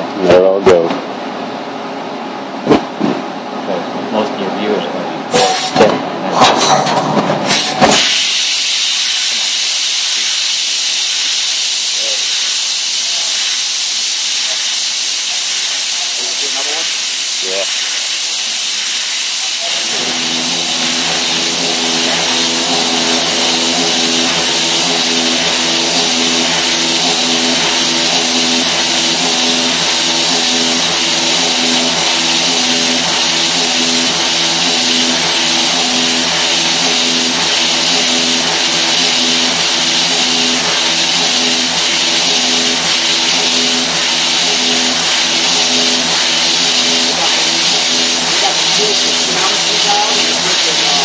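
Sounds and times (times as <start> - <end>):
milling machine whine: 0.0 - 51.0.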